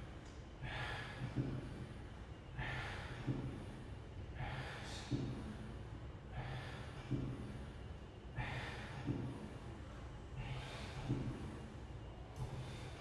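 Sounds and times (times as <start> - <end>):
man breathing hard: 0.6 - 13.0.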